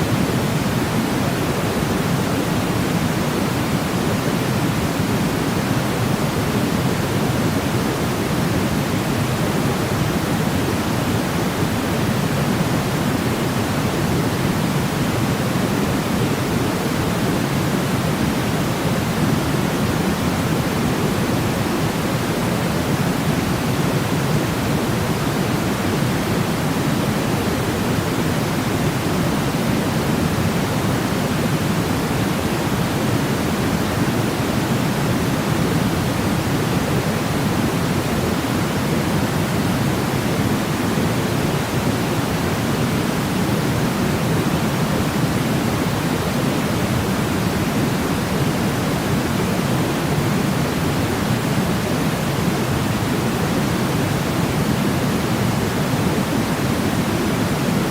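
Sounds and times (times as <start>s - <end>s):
steady deep white noise: 0.0s - 57.9s.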